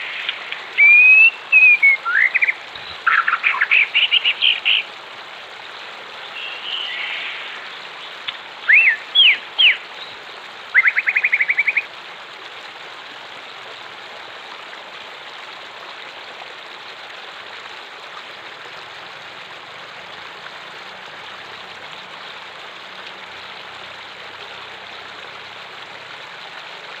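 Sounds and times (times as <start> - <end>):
stream flowing: 0.0 - 27.0.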